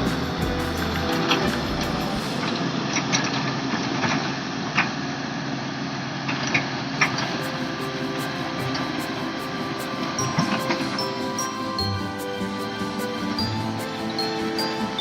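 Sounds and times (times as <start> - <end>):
heavy machine engine running: 0.0 - 15.0.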